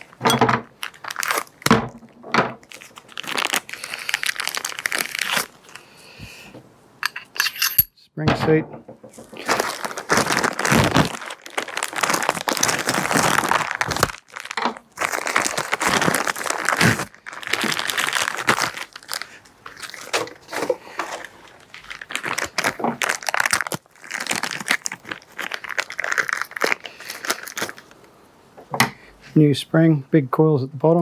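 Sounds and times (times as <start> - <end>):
plastic packaging crinkling: 0.0 - 6.5, 9.1 - 28.0.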